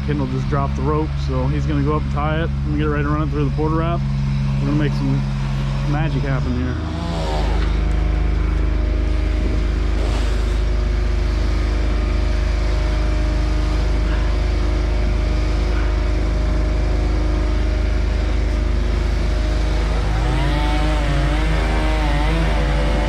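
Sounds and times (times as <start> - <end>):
engine idling: 0.0 - 23.0
motor with wavering pitch: 0.0 - 23.0.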